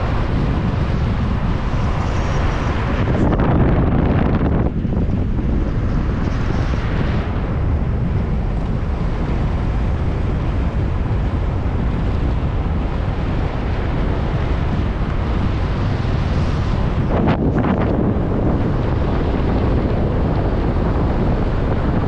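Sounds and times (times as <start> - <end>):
car road and tyre noise: 0.0 - 22.0
wind buffeting microphone: 0.0 - 22.0.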